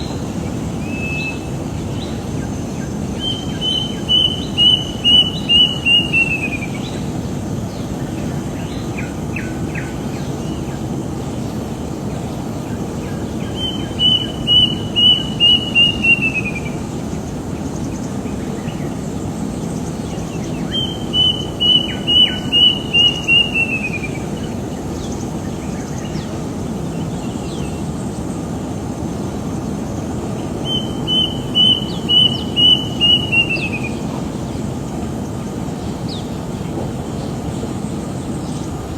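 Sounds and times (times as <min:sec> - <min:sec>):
bird whistling song: 0:00.0 - 0:27.9, 0:29.8 - 0:34.9.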